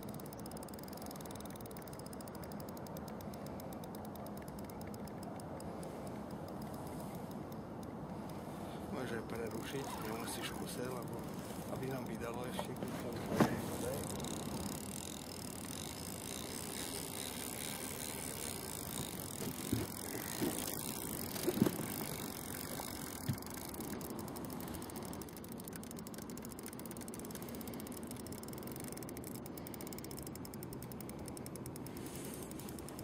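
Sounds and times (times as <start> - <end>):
fishing reel ticking: 0.0 - 33.0.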